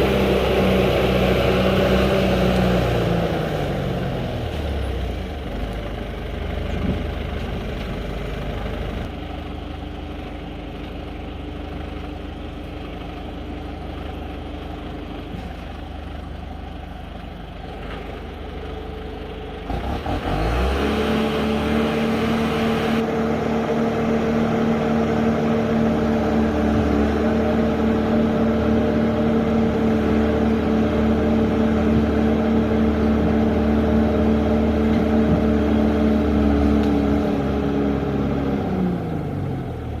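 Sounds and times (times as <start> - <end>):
diesel engine revving: 0.0 - 40.0.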